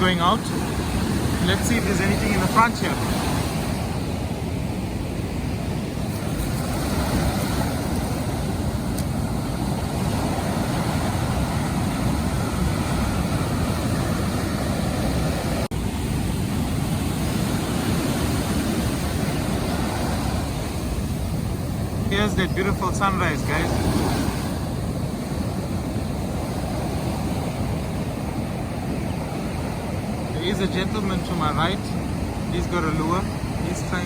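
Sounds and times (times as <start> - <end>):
wind noise on microphone: 0.0 - 30.4
surf breaking on beach: 0.0 - 34.0.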